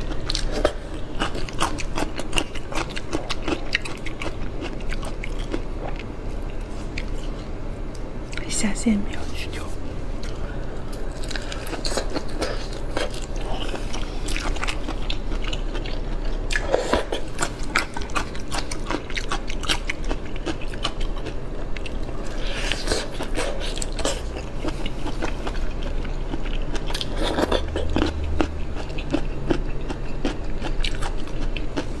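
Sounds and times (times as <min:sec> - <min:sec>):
person chewing crunchy food: 0:00.0 - 0:08.4, 0:10.2 - 0:32.0.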